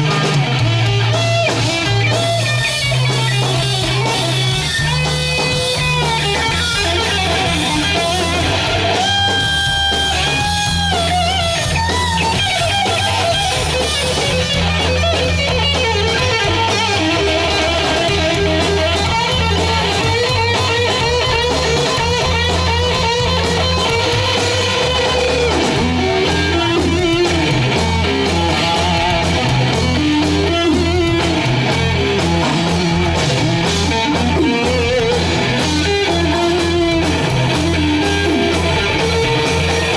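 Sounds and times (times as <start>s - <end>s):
electric guitar lead with vibrato: 0.0s - 39.9s
steady bass line: 0.0s - 39.9s.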